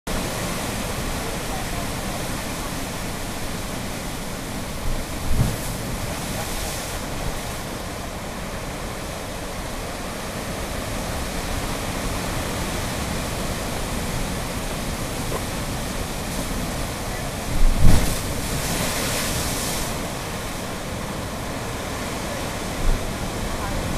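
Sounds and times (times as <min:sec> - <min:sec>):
ocean surf rushing through rocks: 0:00.1 - 0:23.9.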